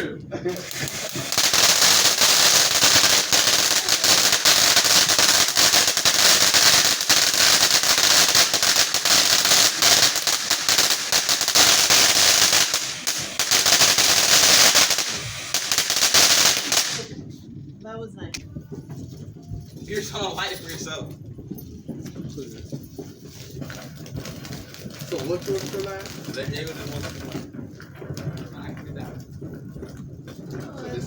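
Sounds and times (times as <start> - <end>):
firecrackers popping: 0.0 - 31.0.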